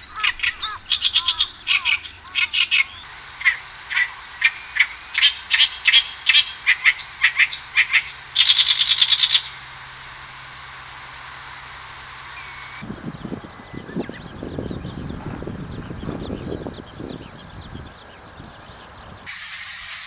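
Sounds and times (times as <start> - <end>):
bird singing high clear notes: 0.0 - 10.6, 11.9 - 20.0.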